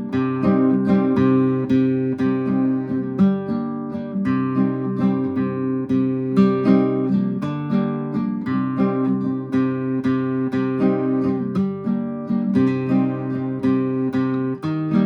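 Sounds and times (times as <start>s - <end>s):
nylon-string guitar strummed: 0.0s - 15.0s.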